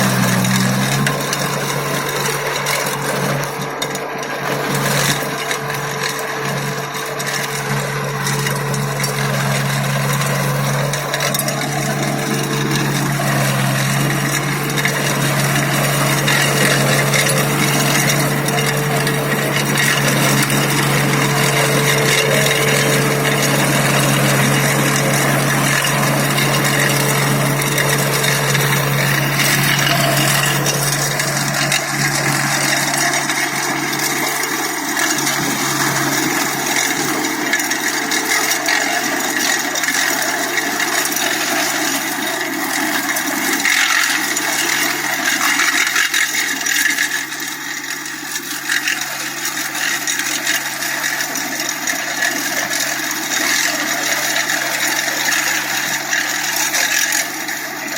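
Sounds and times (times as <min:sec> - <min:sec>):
blades grinding through stubble: 0:00.0 - 0:57.9
tractor engine hum: 0:00.0 - 0:57.9.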